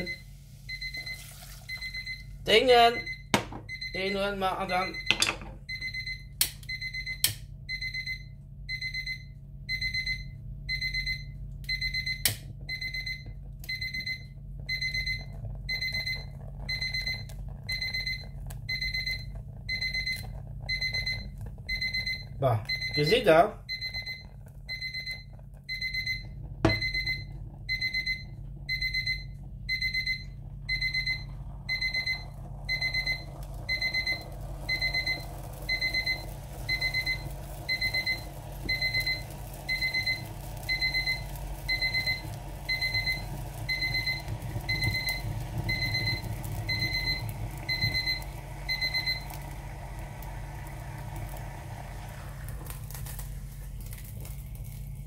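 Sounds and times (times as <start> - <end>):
electronic alarm beeping: 0.0 - 49.3
steady low hum: 0.0 - 55.0.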